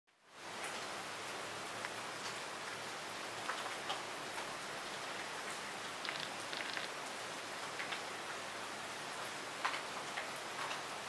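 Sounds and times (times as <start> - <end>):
steady rain hiss: 0.1 - 11.0
raindrops ticking on surfaces: 0.3 - 11.0.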